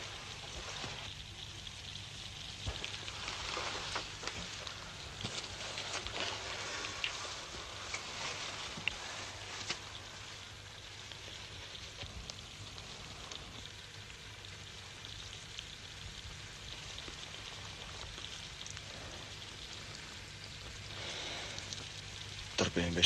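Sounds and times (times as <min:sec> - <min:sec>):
faint crackle: 0:00.0 - 0:23.0
film soundtrack hiss: 0:00.0 - 0:23.0.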